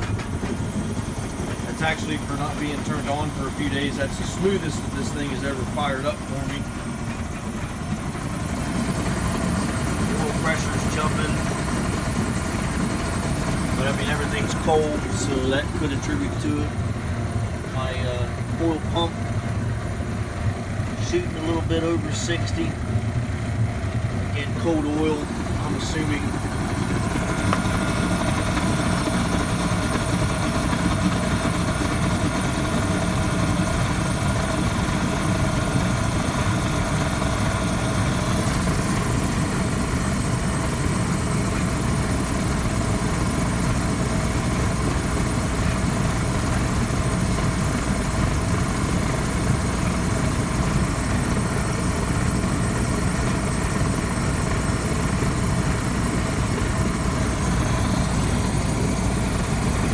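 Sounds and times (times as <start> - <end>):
burner flame and blower rumble: 0.0 - 59.9
steady whine: 0.0 - 59.9.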